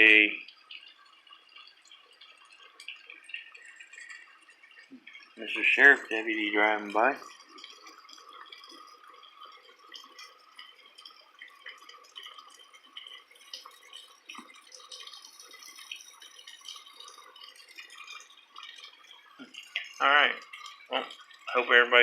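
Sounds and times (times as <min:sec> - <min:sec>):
rain dripping: 0:00.0 - 0:22.0.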